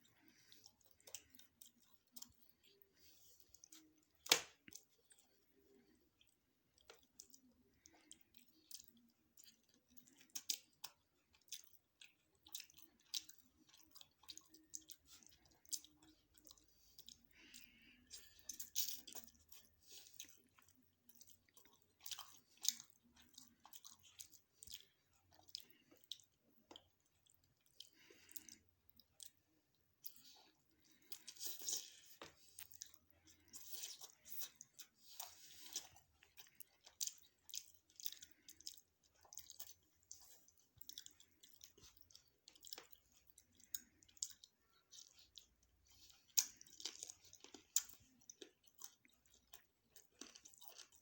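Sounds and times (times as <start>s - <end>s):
person chewing food: 0.0s - 51.0s.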